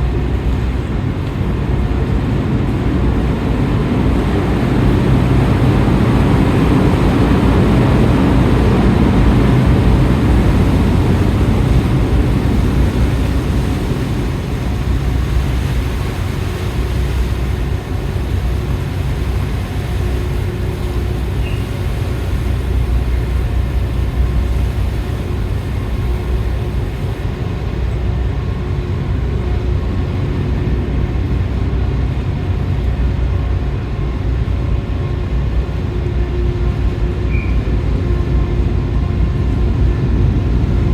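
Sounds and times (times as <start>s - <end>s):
ferry engines droning: 0.0s - 40.9s
rain: 0.0s - 40.9s
wind: 0.0s - 40.9s.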